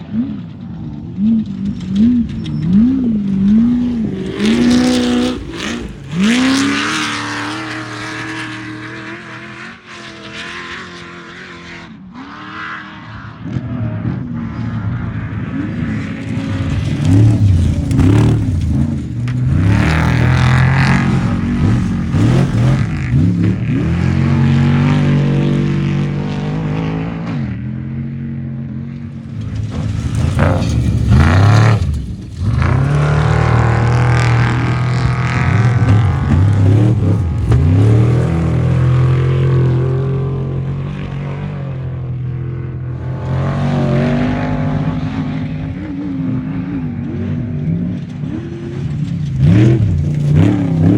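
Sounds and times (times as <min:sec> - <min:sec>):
race vehicle engines revving: 0:00.0 - 0:50.9.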